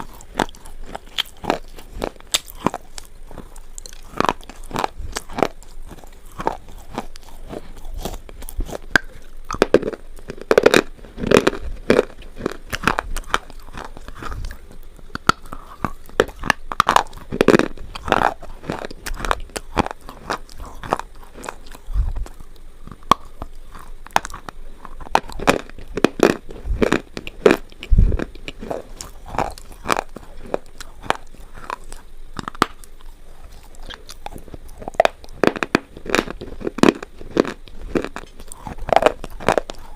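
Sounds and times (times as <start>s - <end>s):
person crunching brittle food: 0.0s - 39.9s.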